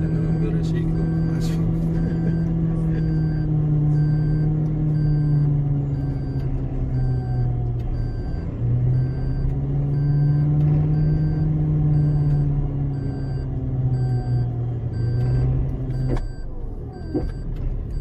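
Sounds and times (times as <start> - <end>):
vehicle motor hum: 0.0 - 18.0.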